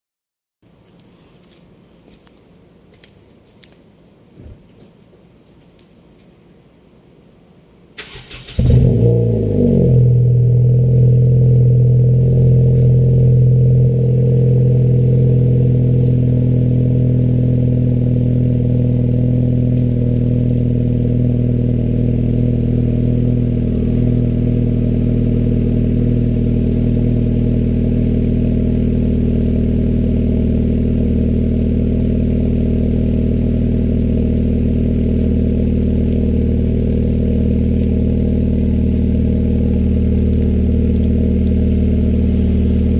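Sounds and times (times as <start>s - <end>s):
car engine cold start and idle: 8.0s - 42.9s.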